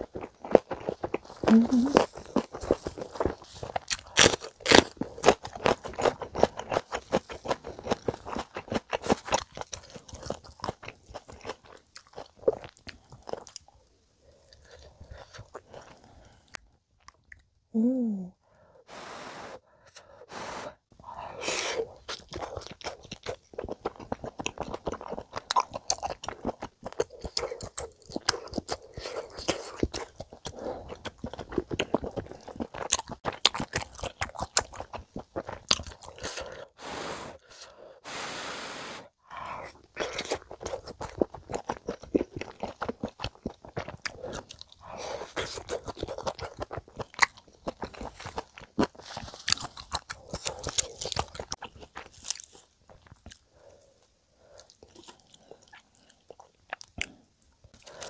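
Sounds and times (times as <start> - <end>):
chewing with wet mouth clicks: 0.0 - 13.8, 14.4 - 17.6, 22.0 - 36.5, 39.9 - 53.7, 54.5 - 58.0.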